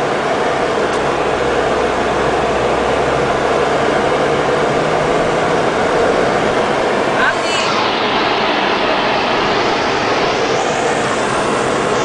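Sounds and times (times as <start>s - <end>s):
low engine hum: 0.0s - 12.0s
storm rushing on moving car: 0.0s - 12.0s.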